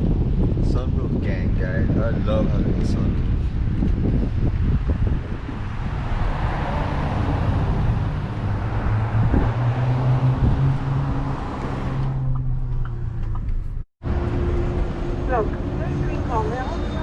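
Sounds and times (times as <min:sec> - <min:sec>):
road and wind noise: 0:00.0 - 0:17.0
low engine hum: 0:01.9 - 0:17.0.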